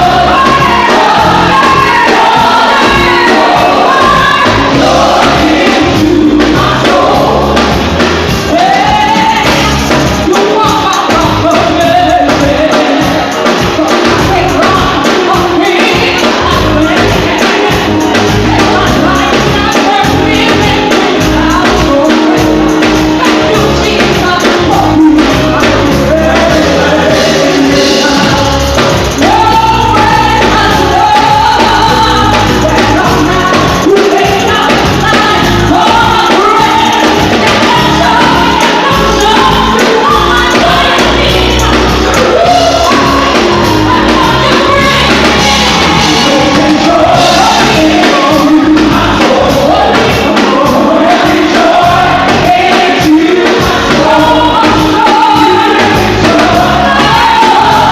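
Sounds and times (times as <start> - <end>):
group singing gospel music: 0.0 - 57.9.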